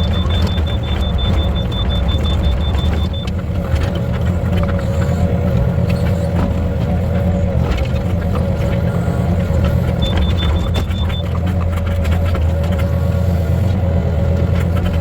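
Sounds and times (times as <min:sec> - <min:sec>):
low machine rumble: 0:00.0 - 0:15.0.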